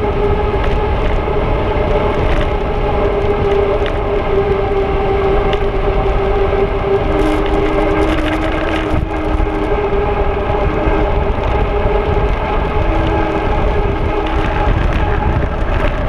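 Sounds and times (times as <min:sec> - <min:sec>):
droning tones: 0:00.0 - 0:16.0
wind rumble over camera: 0:00.0 - 0:16.0.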